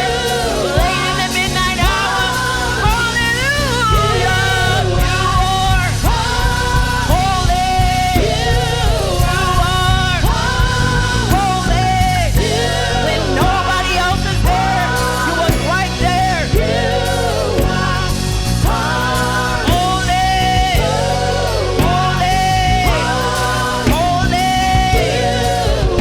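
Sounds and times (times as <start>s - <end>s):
worship band playing: 0.0s - 26.0s.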